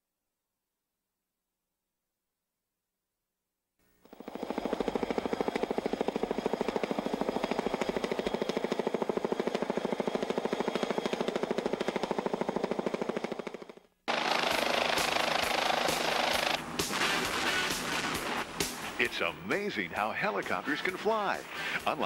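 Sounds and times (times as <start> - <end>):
helicopter rotor blades chopping: 4.0 - 22.0.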